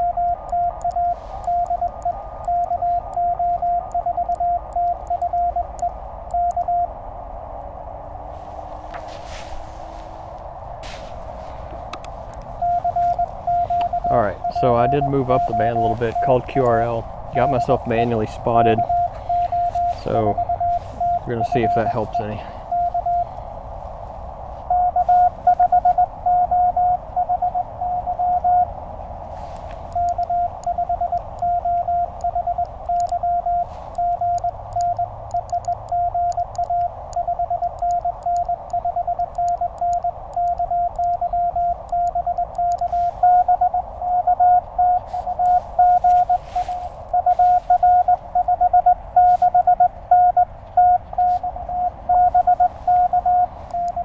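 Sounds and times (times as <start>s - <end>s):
morse code tone: 0.0s - 7.0s, 11.1s - 54.0s
receiver hiss: 0.0s - 54.0s.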